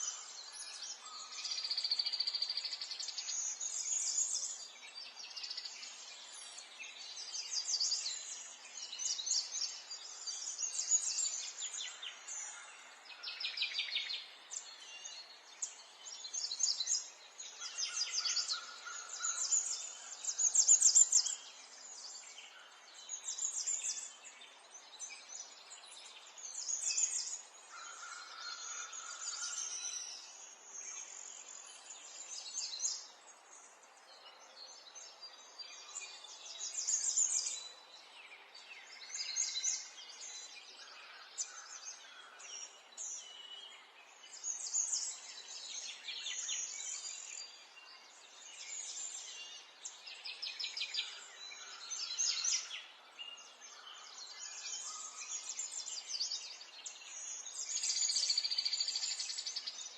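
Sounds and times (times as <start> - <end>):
faint outdoor hiss: 0.0 - 59.9
songbirds chirping and singing: 0.0 - 59.9.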